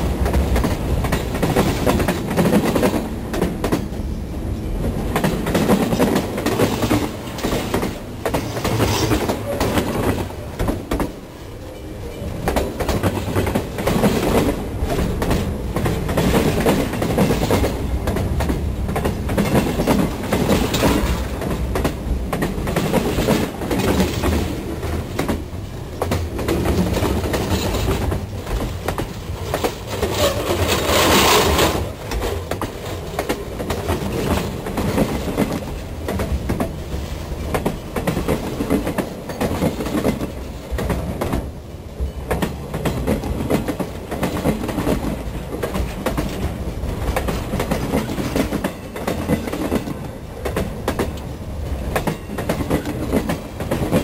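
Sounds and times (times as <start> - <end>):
train wheels rumbling on rails: 0.0 - 54.0
wheels clickety-clack: 0.2 - 4.0, 4.8 - 11.2, 12.1 - 54.0.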